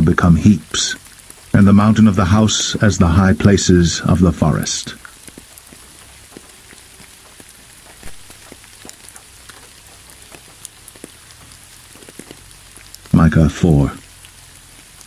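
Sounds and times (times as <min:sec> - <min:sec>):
light rain hissing: 0:00.0 - 0:15.0
raindrops ticking: 0:00.0 - 0:15.0.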